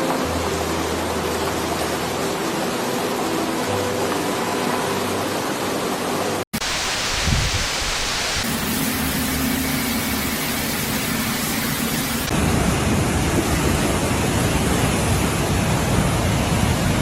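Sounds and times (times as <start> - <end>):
flowing floodwater: 0.0 - 17.0
heavy rain: 0.0 - 17.0.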